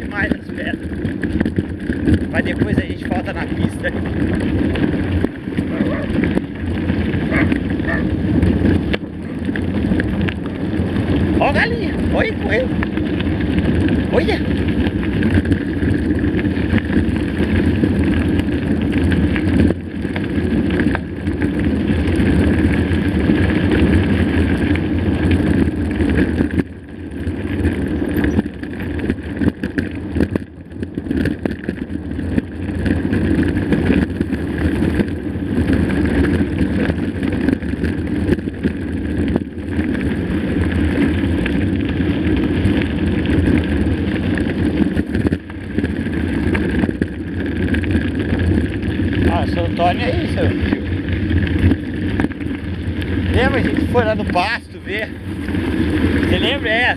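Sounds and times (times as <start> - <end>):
bike clattering over stones: 0.0 - 56.9
tyre noise on dirt: 0.0 - 56.9
wind rumble on microphone: 0.0 - 56.9.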